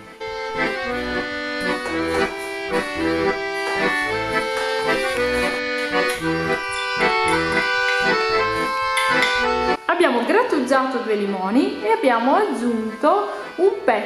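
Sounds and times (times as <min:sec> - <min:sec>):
instrumental music with bass line: 0:00.0 - 0:14.0.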